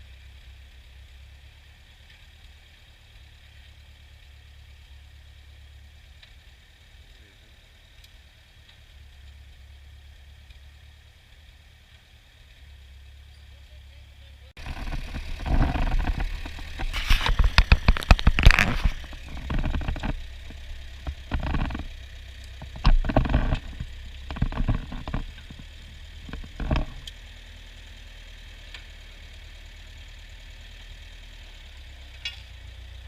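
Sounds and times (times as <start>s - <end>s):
tractor engine humming: 0.0s - 33.0s.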